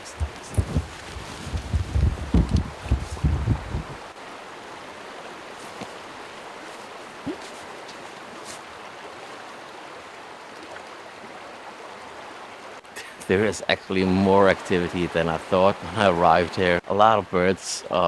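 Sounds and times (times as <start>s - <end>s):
river water rushing: 0.0s - 16.8s.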